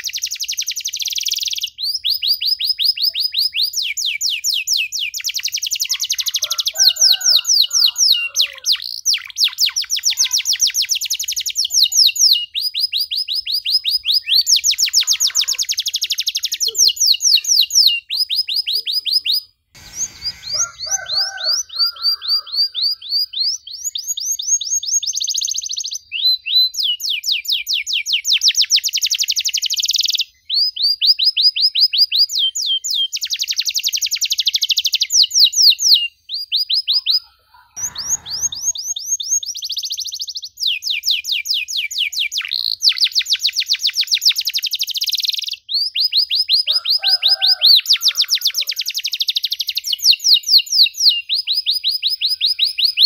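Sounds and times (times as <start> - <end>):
canary singing rapid trills: 0.0 - 26.6, 31.8 - 53.0.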